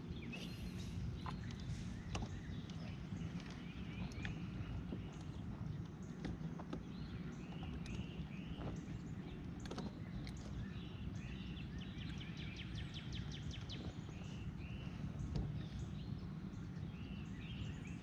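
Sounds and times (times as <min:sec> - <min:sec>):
songbirds calling: 0:00.0 - 0:18.0.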